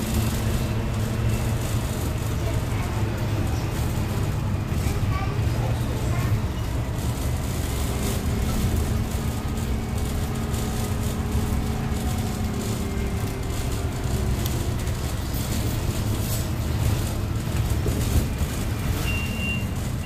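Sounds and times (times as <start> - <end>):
bus motor and road rumble: 0.0 - 20.0.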